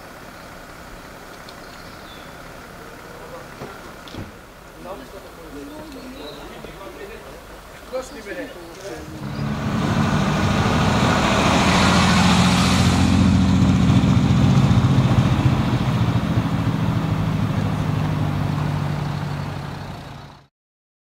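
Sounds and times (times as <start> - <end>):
car engine driving off: 0.0 - 20.5.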